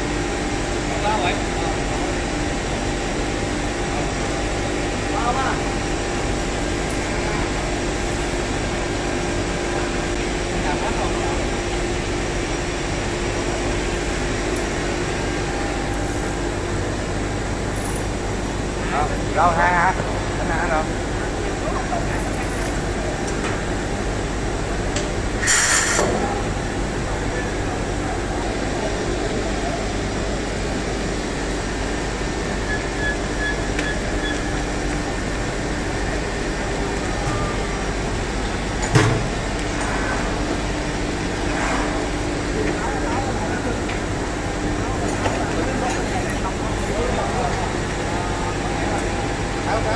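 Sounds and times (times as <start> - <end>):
industrial machinery hum: 0.0 - 49.9.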